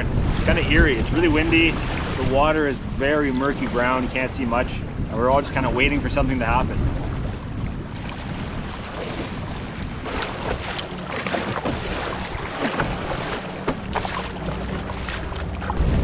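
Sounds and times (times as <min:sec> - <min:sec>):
water splashes: 0:00.0 - 0:16.0
wind buffeting microphone: 0:00.0 - 0:16.0.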